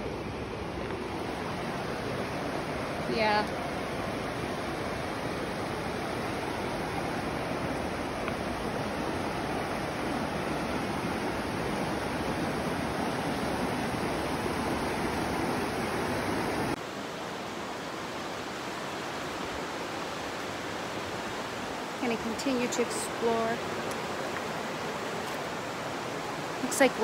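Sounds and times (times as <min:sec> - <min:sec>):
creek rapids rushing: 0:00.0 - 0:27.0.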